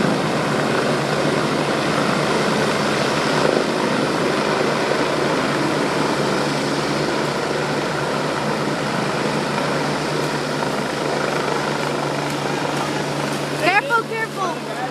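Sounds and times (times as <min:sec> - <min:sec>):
helicopter hovering: 0:00.0 - 0:14.9.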